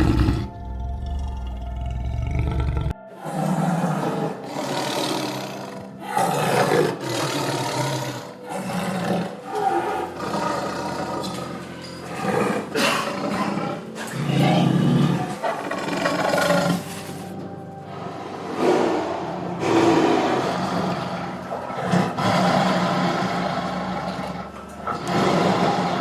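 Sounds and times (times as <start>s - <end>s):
large animal roaring: 0.0s - 17.2s, 17.9s - 26.0s
background music: 0.0s - 26.0s.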